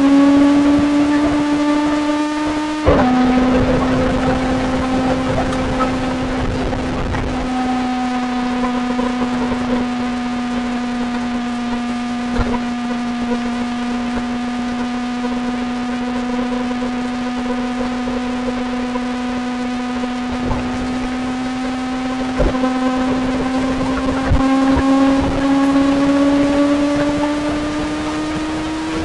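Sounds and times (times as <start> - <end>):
motorcycle engine high revs: 0.0 - 29.0.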